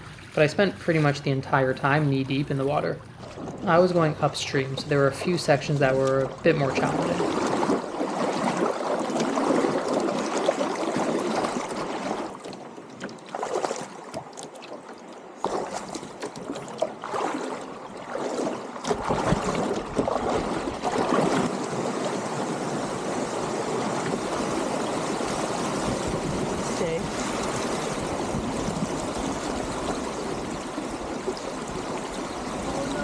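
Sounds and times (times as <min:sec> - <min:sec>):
stream water rushing and splashing: 0:00.0 - 0:33.0.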